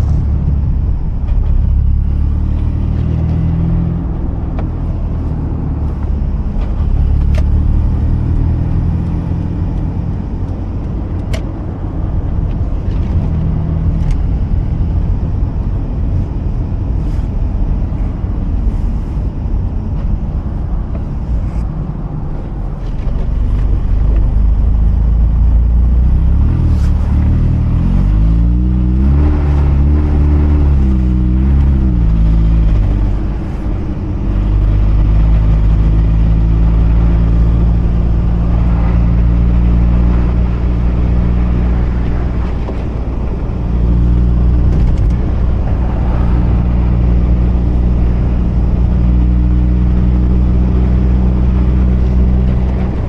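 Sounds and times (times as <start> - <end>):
rotary engine running at low revs: 0.0 - 53.0
tyre and road noise: 0.0 - 53.0.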